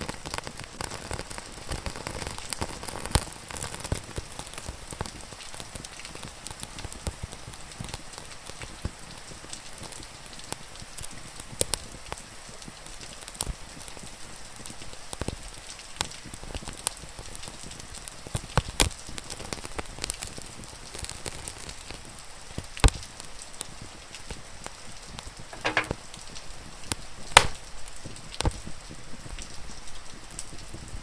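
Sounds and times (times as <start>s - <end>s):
fire crackling and popping: 0.0s - 31.0s
rain hiss: 0.0s - 31.0s.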